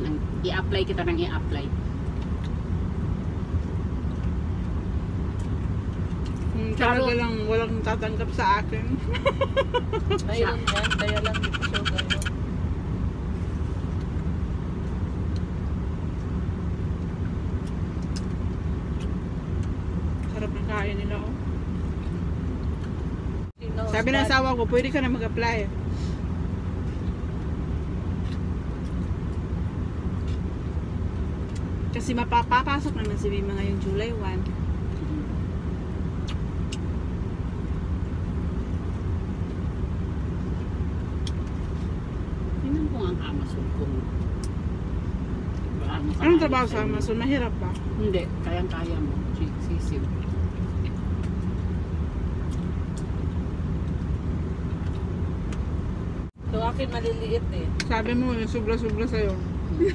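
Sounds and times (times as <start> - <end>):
vehicle cabin rumble: 0.0 - 59.9.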